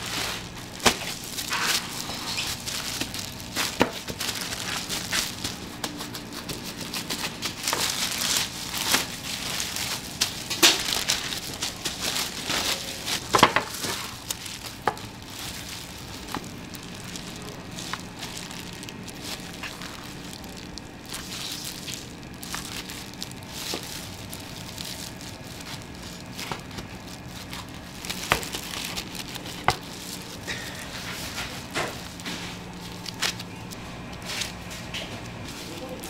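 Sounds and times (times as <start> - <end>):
plastic film crinkling: 0.0 - 36.0
steady low hum: 0.0 - 36.0.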